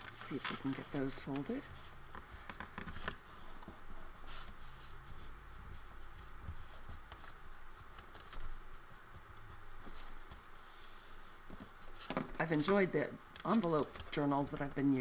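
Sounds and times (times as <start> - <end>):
paper rustling and creasing: 0.0 - 14.4.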